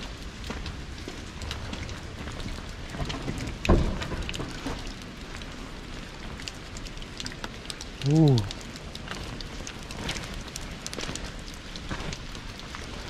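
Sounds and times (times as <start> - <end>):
light rain hiss: 0.0 - 13.0
raindrops ticking: 0.0 - 13.0.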